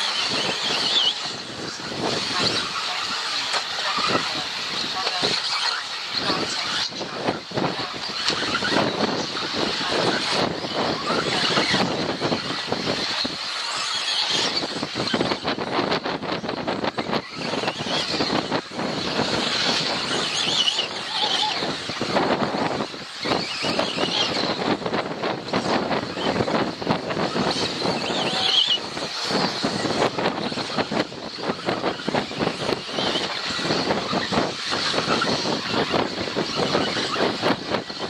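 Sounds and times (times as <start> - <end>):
model car motors racing: 0.0 - 38.0.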